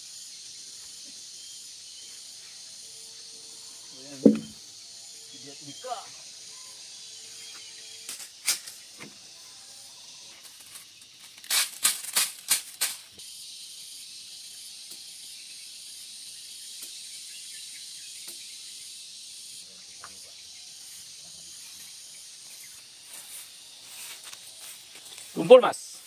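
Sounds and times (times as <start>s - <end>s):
steady high hiss: 0.0s - 9.4s, 10.1s - 26.0s.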